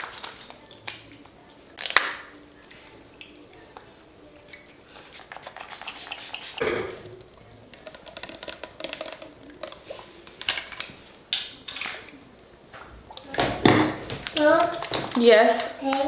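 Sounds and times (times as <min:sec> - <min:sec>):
kitchen utensils and dishes clattering: 0:00.0 - 0:16.0.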